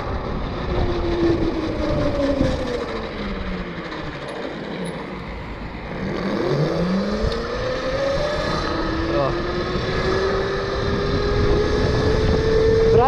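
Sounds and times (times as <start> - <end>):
electric bike motor whining: 0.0 - 13.0
wind: 0.0 - 13.0.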